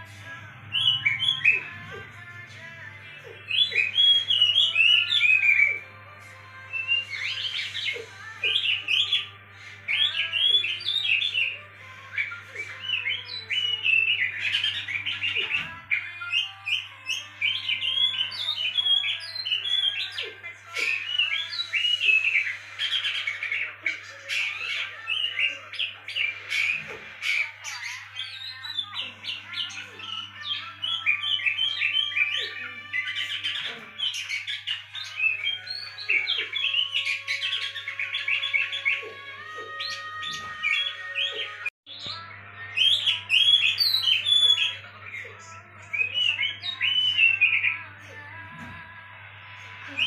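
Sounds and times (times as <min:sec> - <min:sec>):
songbird chirps and whistles: 0:00.6 - 0:02.6, 0:03.2 - 0:50.0.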